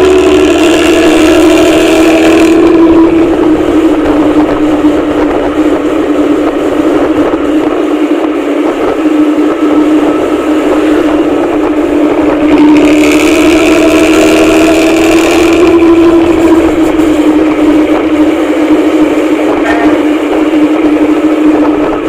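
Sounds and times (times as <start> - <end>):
bus engine droning: 0.0 - 22.0.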